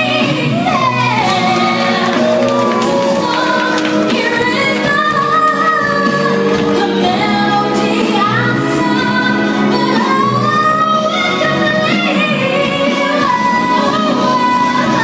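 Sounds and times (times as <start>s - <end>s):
woman singing a ballad: 0.0s - 15.0s
instrumental accompaniment: 0.1s - 15.0s.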